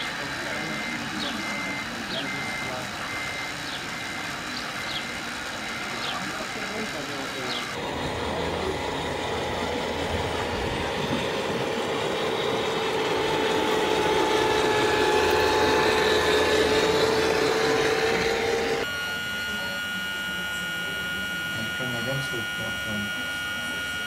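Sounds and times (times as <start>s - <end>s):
model truck motor whine: 0.0s - 24.0s
quiet hum with high tones: 0.0s - 24.0s.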